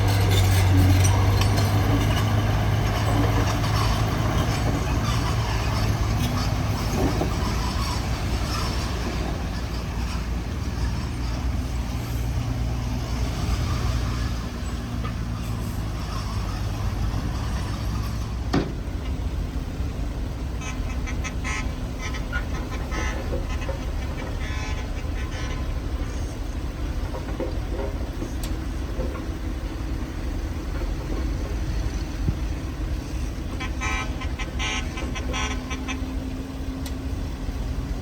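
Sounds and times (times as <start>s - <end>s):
diesel machinery engine drone: 0.0s - 38.0s.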